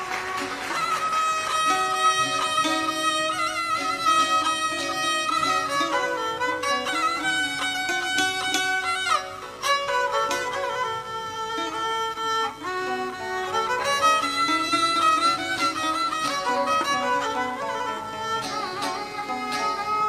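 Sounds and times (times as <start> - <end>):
violin melody with sliding notes: 0.0 - 20.0.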